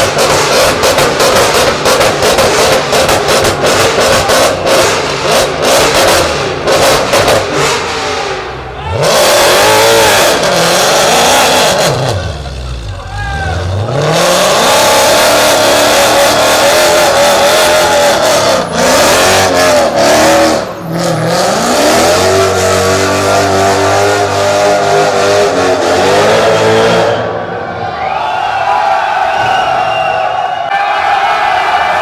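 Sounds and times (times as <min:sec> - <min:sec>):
car engine revving: 0:00.0 - 0:27.4.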